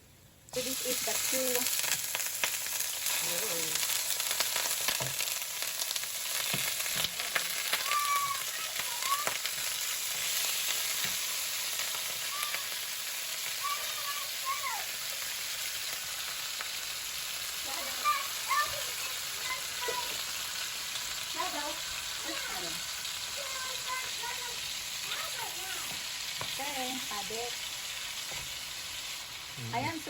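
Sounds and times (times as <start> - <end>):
chicken sizzling in oil: 0.5 - 30.0.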